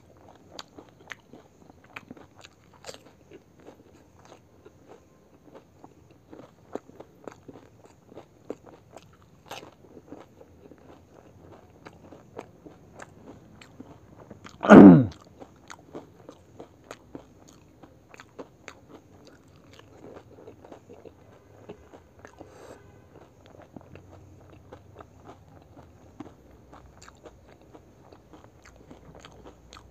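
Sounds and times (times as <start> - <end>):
crisp food crunching: 0.2 - 22.4, 23.2 - 29.9.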